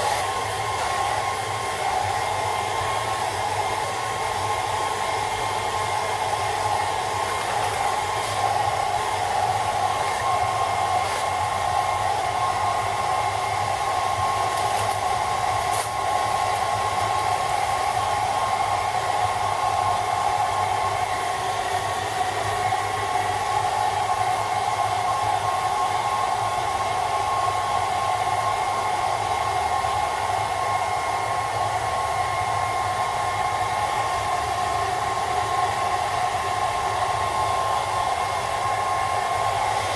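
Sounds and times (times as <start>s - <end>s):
hairdryer running: 0.0s - 39.9s.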